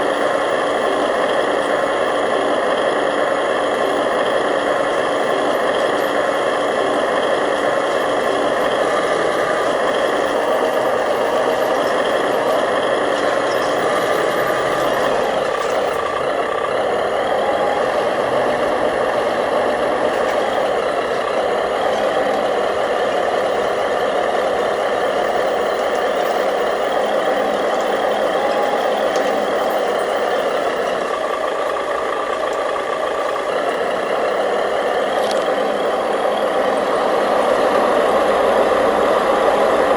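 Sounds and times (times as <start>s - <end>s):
remote-control machines droning: 0.0s - 39.9s.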